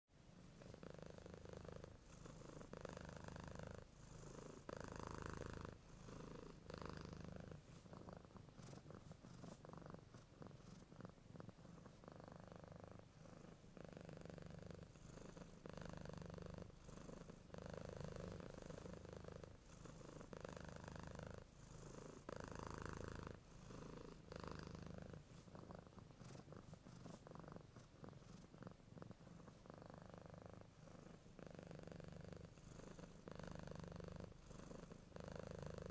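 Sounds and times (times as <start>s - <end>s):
cat purring: 0.2s - 35.9s.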